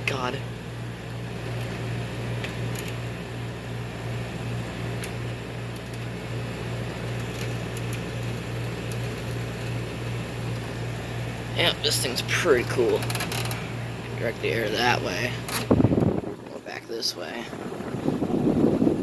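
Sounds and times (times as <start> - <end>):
air conditioner running: 0.0 - 19.0.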